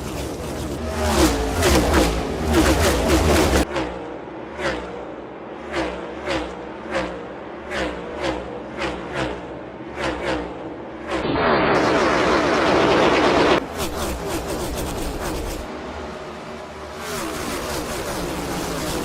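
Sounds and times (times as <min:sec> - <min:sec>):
engine at full throttle: 0:00.0 - 0:19.0
race cars passing: 0:00.7 - 0:13.8, 0:15.4 - 0:19.0.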